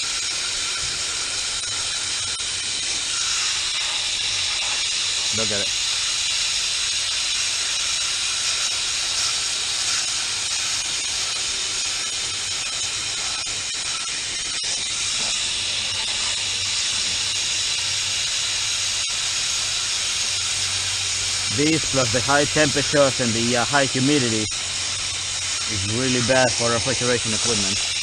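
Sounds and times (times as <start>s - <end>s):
water spraying hiss: 0.0s - 28.0s.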